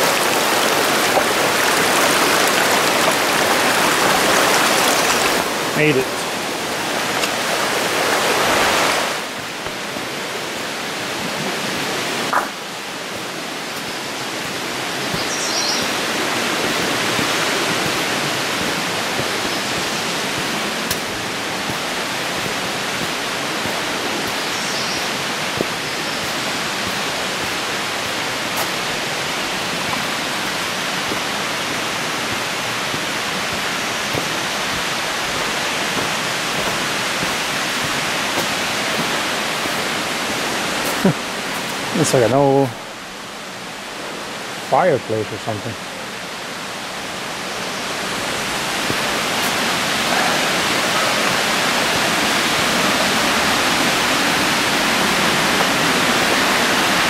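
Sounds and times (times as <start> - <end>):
mountain creek rushing: 0.0 - 57.0.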